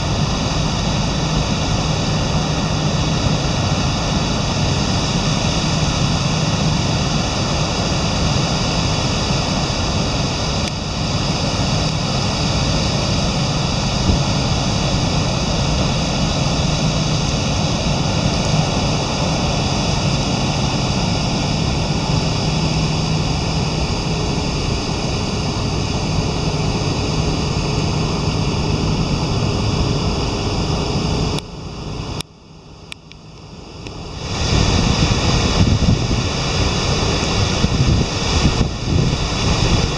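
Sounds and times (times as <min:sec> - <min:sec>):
river rushing through spillway: 0:00.0 - 0:31.3, 0:34.0 - 0:39.9.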